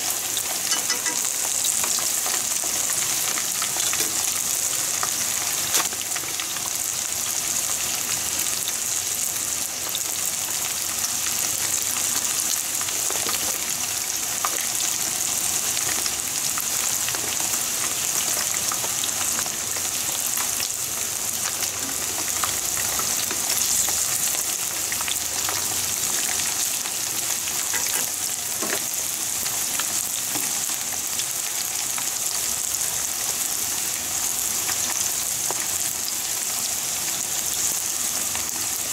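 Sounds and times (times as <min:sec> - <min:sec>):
hot oil sizzling with pops: 0:00.0 - 0:38.9.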